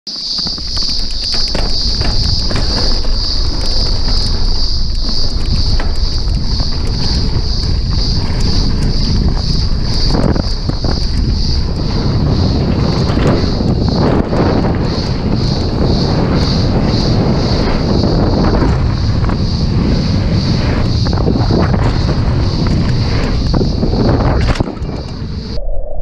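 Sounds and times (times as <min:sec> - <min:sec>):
bike knocks and rattles: 0:00.1 - 0:25.4
tyres rumbling over dirt: 0:00.1 - 0:25.6
high pulsing whine: 0:00.1 - 0:26.0
wind buffeting microphone: 0:00.1 - 0:26.0.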